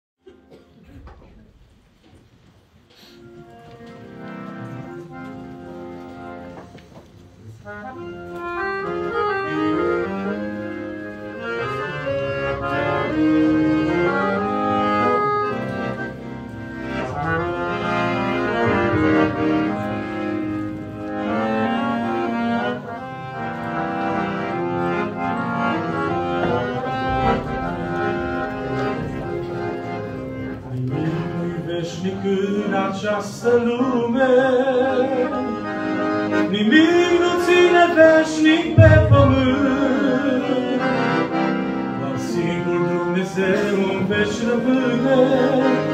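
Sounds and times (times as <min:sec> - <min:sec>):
accordion melody with accompaniment: 0:02.9 - 0:45.9.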